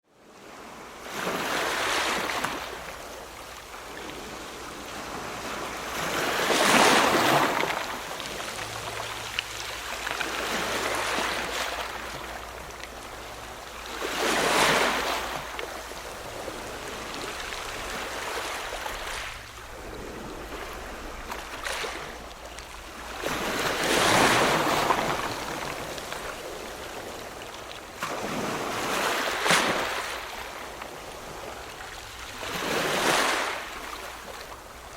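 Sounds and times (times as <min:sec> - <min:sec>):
ocean waves breaking on shore: 0:00.2 - 0:34.9.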